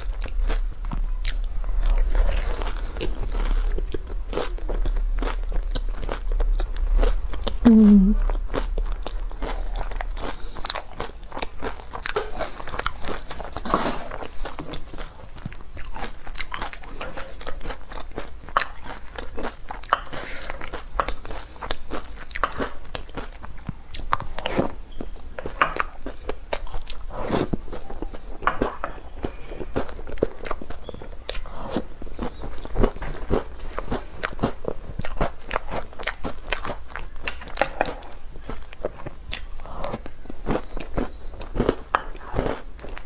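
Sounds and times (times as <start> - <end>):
person chewing crunchy food: 0.0 - 43.0.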